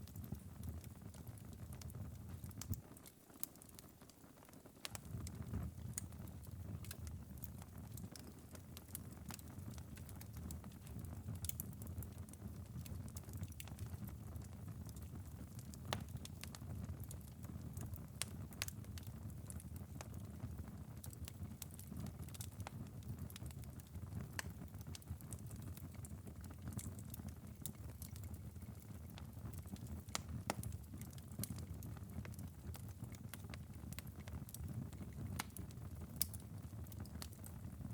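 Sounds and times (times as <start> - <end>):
embers crackling and popping: 0.0 - 37.9.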